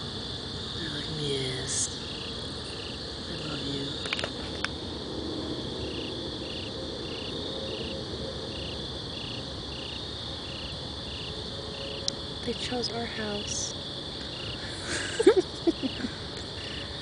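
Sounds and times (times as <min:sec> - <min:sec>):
crickets trilling: 0:00.0 - 0:17.0
repeated cricket chirps: 0:00.0 - 0:17.0.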